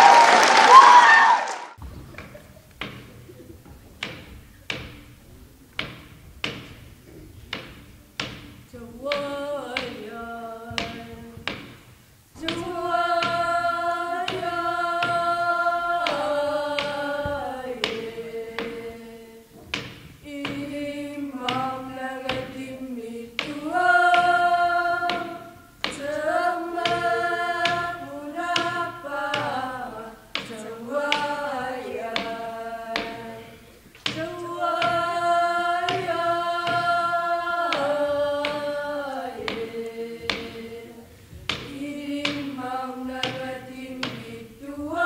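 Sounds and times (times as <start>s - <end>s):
frame drum beat: 7.5s - 45.0s
women singing in unison: 8.6s - 45.0s.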